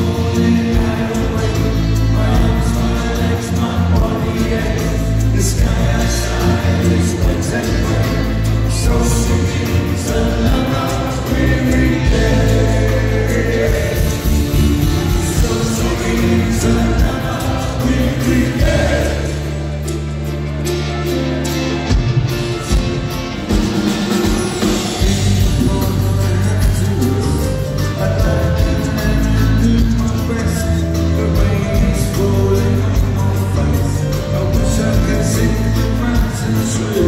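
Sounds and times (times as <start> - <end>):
man singing lead: 0.0 - 19.8, 24.6 - 37.0
live band playing: 0.0 - 37.0.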